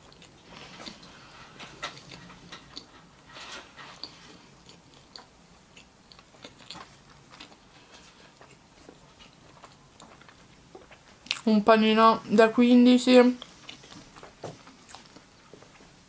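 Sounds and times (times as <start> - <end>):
chewing crunchy sandwich: 0.0 - 11.5, 13.4 - 15.7.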